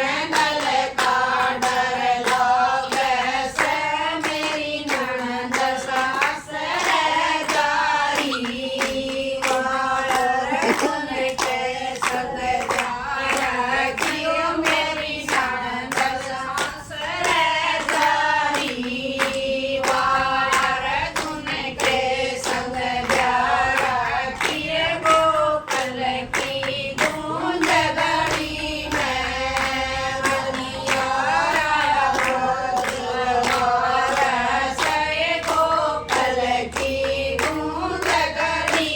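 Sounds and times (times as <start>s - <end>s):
hand clapping: 0.0s - 38.9s
women singing folk song: 0.0s - 38.9s.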